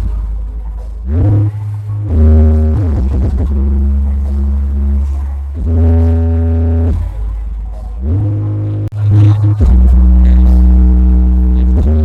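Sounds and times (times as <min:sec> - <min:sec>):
bass-heavy electronic dance music: 0:00.0 - 0:12.0.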